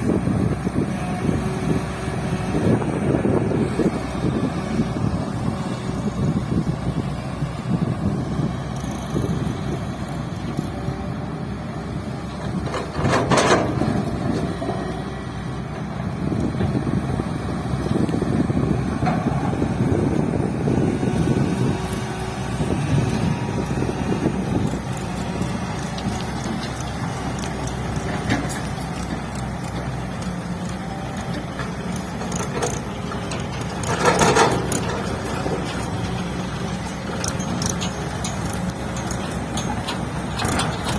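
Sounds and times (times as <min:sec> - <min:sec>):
excavator diesel engine working: 0:00.0 - 0:40.9.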